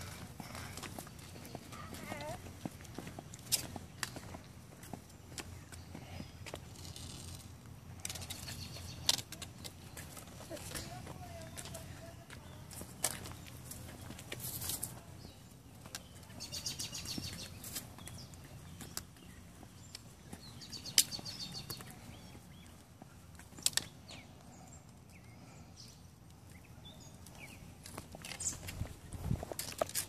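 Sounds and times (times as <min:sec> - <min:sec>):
toddler footsteps on concrete: 0:00.0 - 0:30.0.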